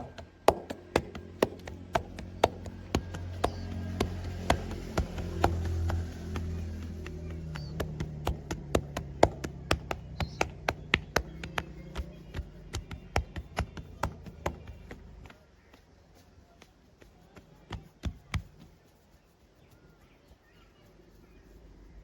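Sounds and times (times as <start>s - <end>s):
hands tapping a body: 0.0s - 20.4s.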